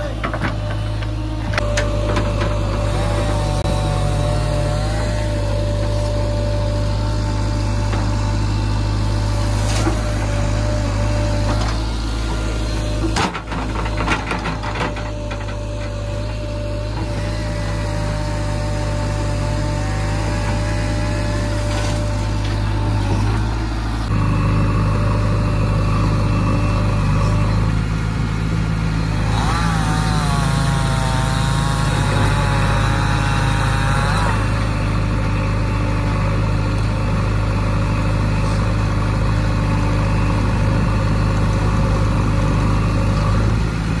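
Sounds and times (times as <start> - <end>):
wavering whine: 0.0 - 43.6
diesel engine running: 0.0 - 44.0.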